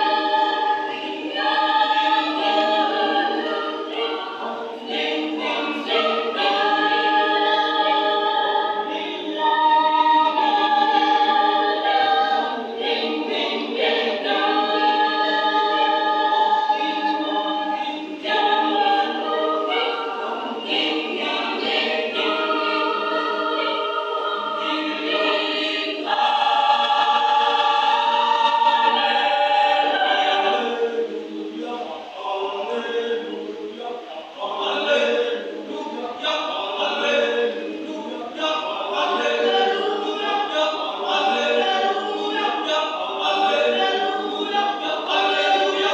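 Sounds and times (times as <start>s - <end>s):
youth choir singing in harmony: 0.0s - 45.9s.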